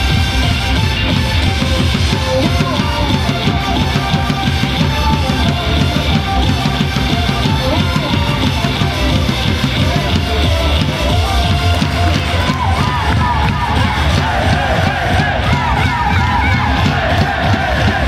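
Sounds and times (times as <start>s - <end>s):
rock song with drums bass and guitar: 0.0s - 18.0s.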